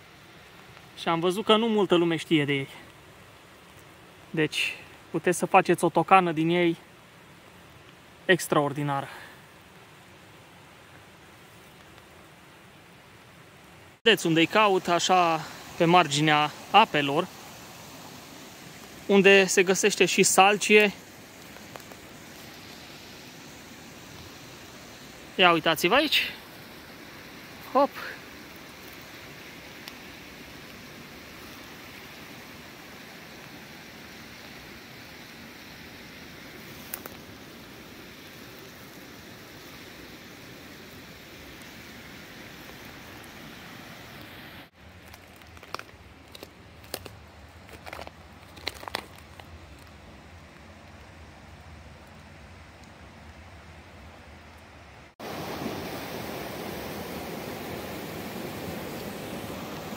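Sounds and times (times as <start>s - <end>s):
steady rushing hiss: 0.0s - 59.9s
stream flowing: 0.0s - 59.9s.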